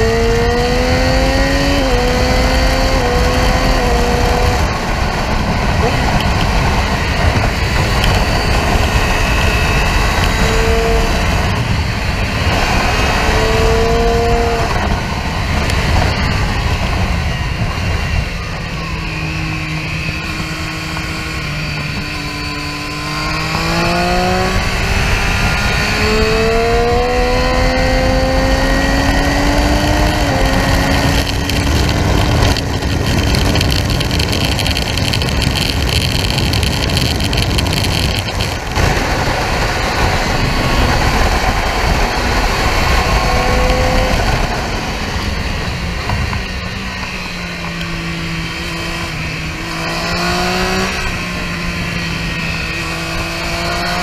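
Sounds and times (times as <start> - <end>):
motorcycle engine revving: 0.0 - 54.0
wind rush over microphone: 0.0 - 54.0.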